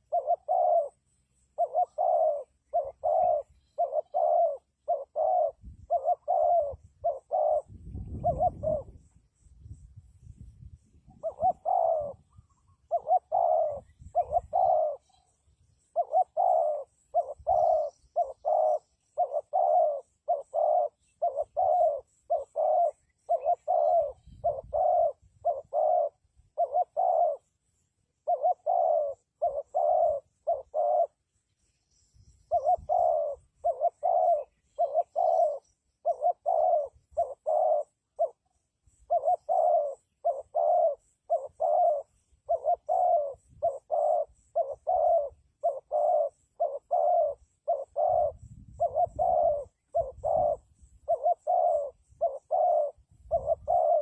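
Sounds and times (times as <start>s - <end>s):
dove cooing: 0.0s - 9.3s, 10.8s - 31.7s, 32.3s - 54.0s.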